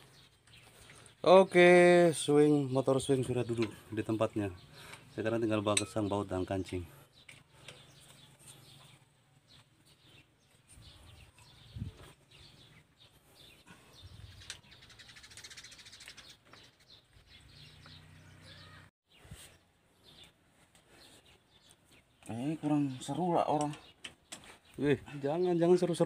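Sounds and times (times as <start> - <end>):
faint bird chirping: 0.0 - 26.0.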